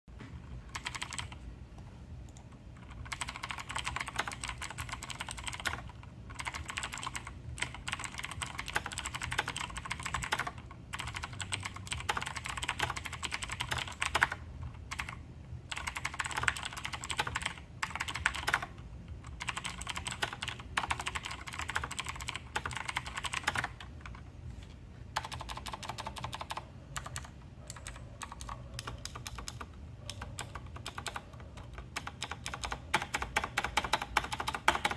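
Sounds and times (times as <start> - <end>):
clicky mechanical keyboard typing: 0.6 - 1.4, 2.3 - 24.3, 25.1 - 34.9.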